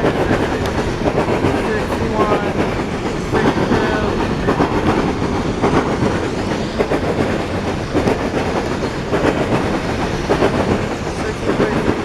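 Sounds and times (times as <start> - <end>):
heavy train rumble: 0.0 - 12.0
train wheels clattering over joints: 0.0 - 12.0.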